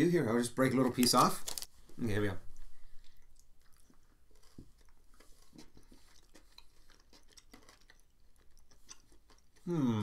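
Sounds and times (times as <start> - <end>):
faint chewing with small crunches: 0.6 - 10.0.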